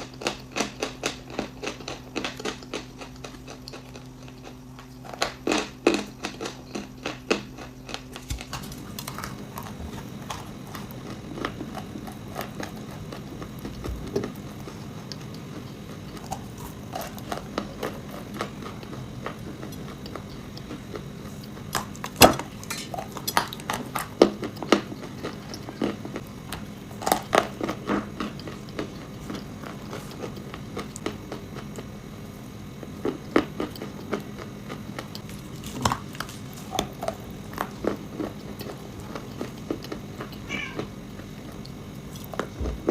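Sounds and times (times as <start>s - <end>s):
crunchy food chewing: 0.0s - 42.9s
faint steady hum: 0.0s - 42.9s.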